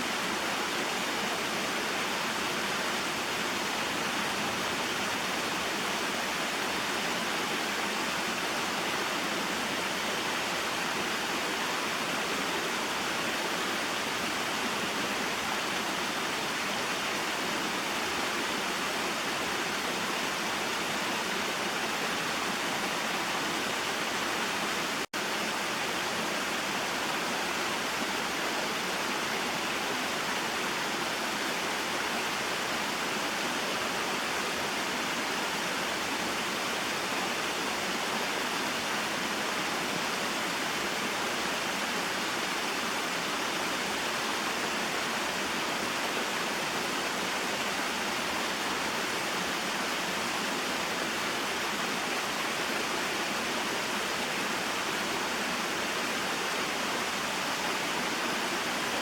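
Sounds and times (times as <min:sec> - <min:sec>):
waterfall and stream running: 0:00.0 - 0:59.0.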